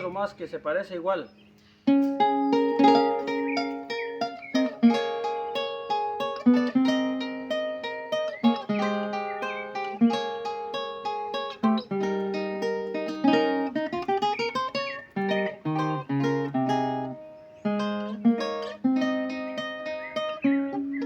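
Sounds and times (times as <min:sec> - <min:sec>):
plucked guitar melody: 0:01.9 - 0:21.0
strummed guitar chords: 0:01.9 - 0:21.0.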